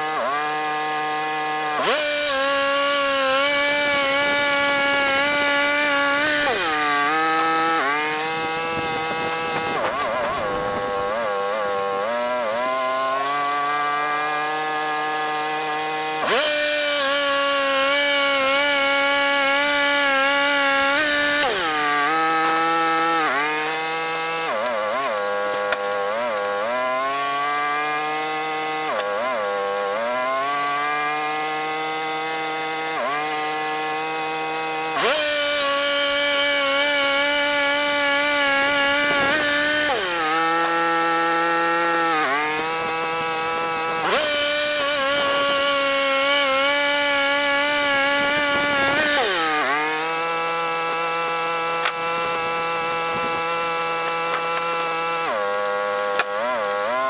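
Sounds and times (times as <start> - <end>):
gas-powered saw cutting wood: 0.0 - 57.0.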